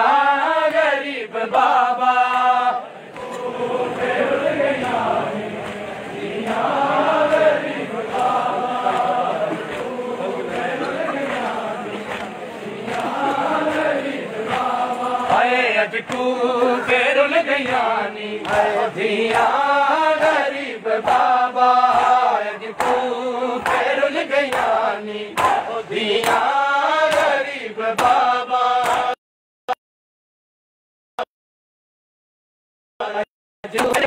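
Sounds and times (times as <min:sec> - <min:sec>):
group of voices chanting lament: 0:00.0 - 0:29.2.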